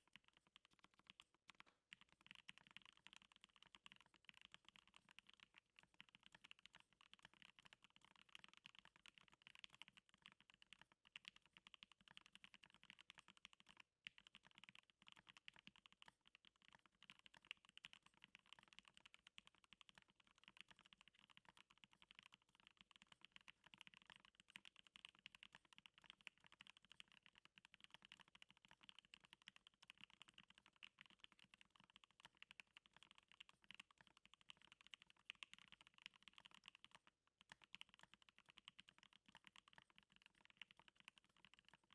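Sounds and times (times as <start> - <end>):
fast mechanical keyboard typing: 0.0 - 41.9.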